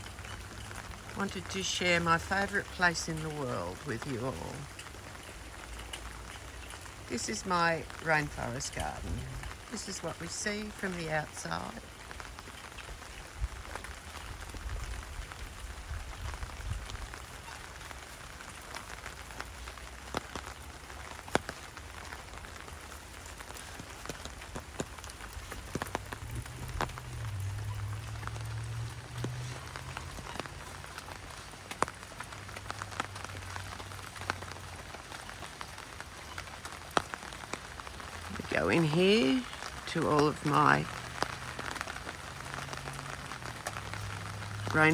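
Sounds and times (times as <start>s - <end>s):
rain falling on an umbrella: 0.0s - 44.9s
heavy drops ticking on umbrella: 3.7s - 9.8s, 11.6s - 44.9s.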